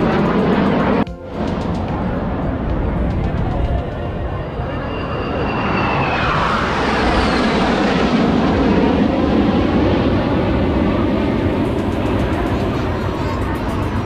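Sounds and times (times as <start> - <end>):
fighter jets flying past: 0.0 - 14.0
high jet whine: 0.0 - 14.0.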